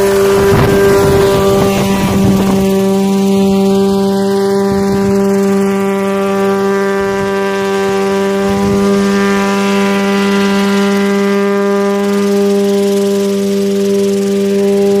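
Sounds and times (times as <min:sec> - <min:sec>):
small helicopter droning hum: 0:00.0 - 0:15.0.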